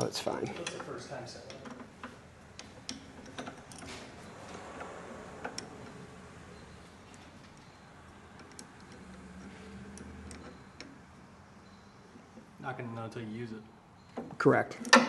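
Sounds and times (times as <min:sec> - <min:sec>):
hand tools and hardware clicking: 0:00.4 - 0:12.6, 0:14.1 - 0:15.0.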